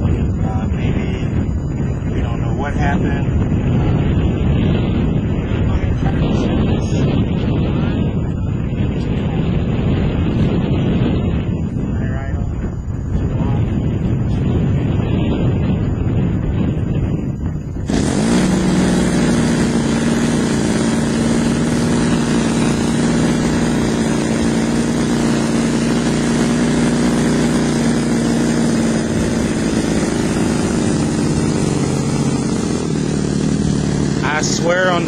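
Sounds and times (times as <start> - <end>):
model airplane engine running: 0.0 - 35.0
wind noise on microphone: 0.0 - 35.0.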